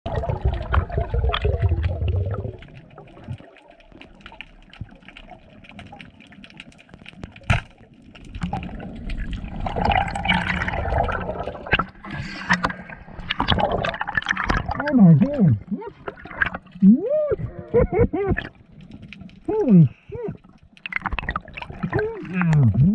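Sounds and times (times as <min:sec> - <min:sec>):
water sloshing and bubbling: 0:00.0 - 0:22.9.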